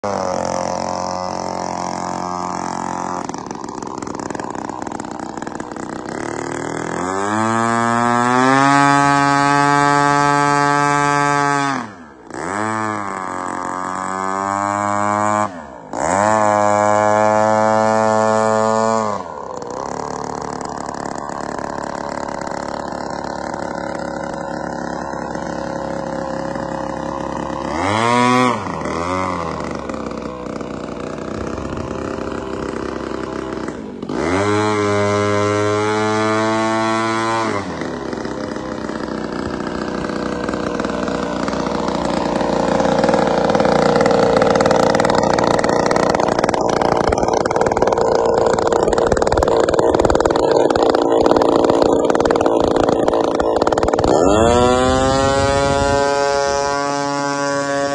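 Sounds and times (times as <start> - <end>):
model airplane engine revving: 0.0 - 57.9.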